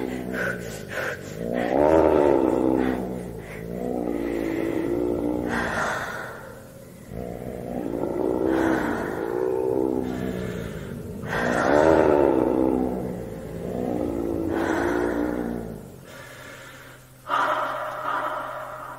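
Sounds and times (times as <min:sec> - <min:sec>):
low pitch-bending ambient tones: 0:00.0 - 0:18.9.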